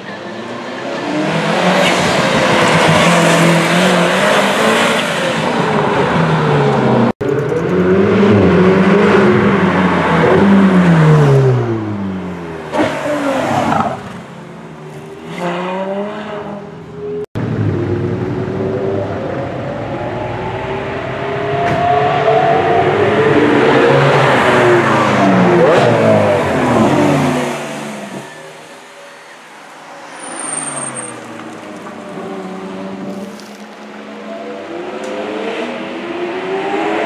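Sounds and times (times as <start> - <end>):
sports car engines revving: 0.5 - 28.7, 30.1 - 37.0.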